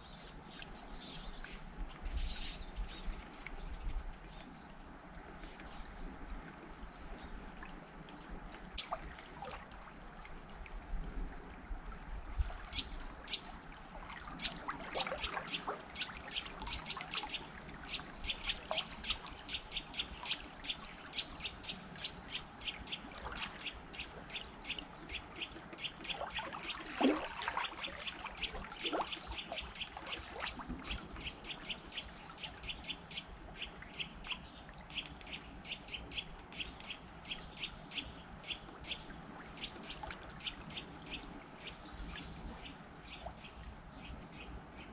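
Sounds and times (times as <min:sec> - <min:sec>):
river water trickling: 0:00.0 - 0:44.9.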